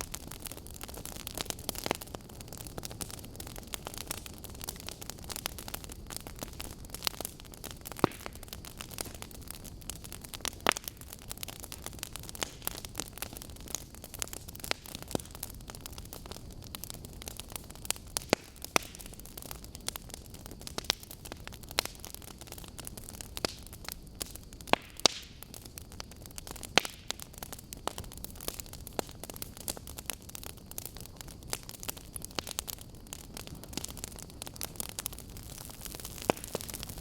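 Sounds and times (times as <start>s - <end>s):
fire hissing: 0.0s - 37.0s
logs crackling and popping: 0.0s - 37.0s.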